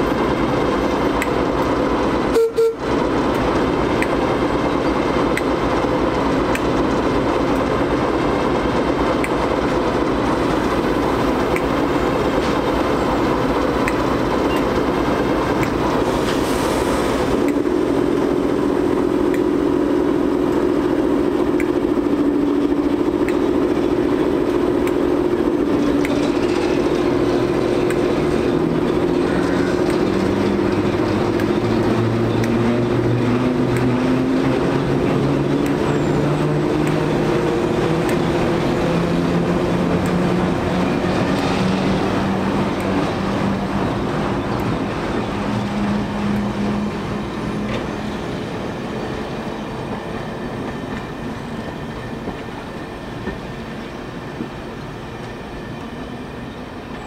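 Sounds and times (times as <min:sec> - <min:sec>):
diesel locomotive engine running: 0:00.0 - 0:57.0.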